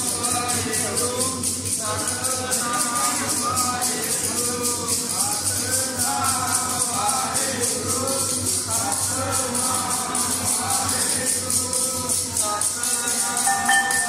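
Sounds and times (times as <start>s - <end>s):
devotional hymn singing: 0.0s - 14.0s
jingling hand percussion: 0.0s - 14.0s.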